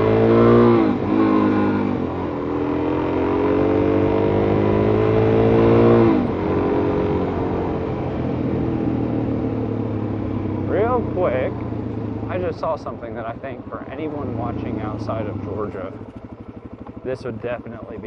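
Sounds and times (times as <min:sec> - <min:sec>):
motorcycle engine under throttle: 0:00.0 - 0:18.0.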